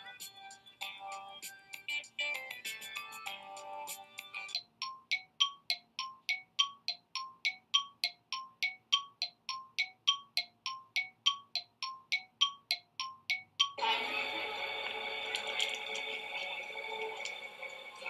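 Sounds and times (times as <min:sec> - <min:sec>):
bell-like repeating notes: 0:00.0 - 0:18.0.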